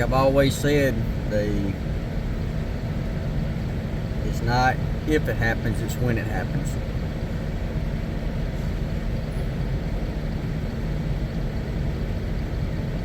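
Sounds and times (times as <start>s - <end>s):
faint steady hum: 0.0s - 13.0s
motor vehicle rumble: 0.0s - 13.0s.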